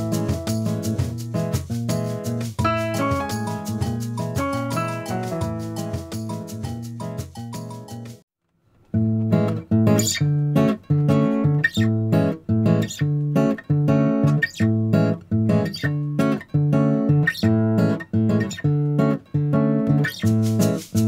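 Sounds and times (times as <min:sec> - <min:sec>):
acoustic guitar strumming chords: 0:00.0 - 0:08.1, 0:09.0 - 0:21.0.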